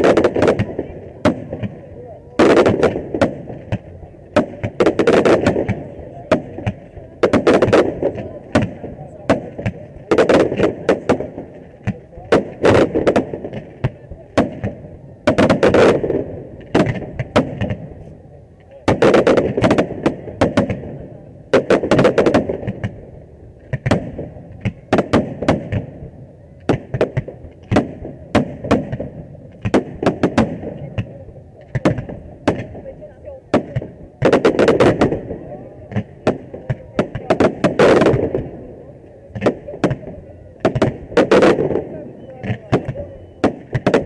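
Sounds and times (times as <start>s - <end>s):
fireworks bursting: 0.0s - 44.0s
fireworks echo: 0.0s - 44.0s.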